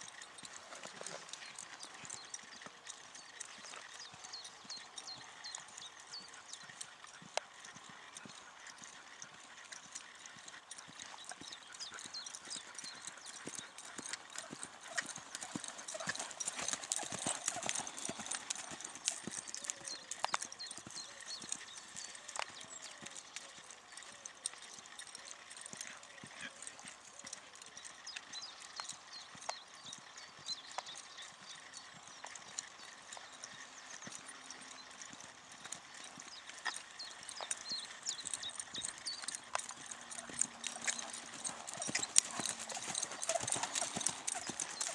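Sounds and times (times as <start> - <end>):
horse hooves on sand: 0.0 - 44.9.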